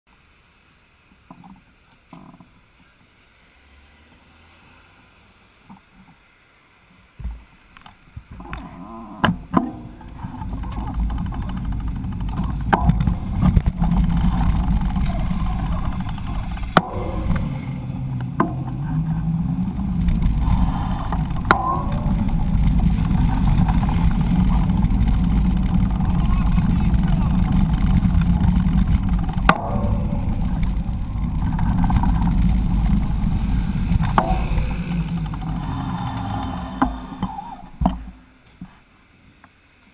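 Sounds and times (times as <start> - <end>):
wind and road noise rumble: 0.2 - 39.9.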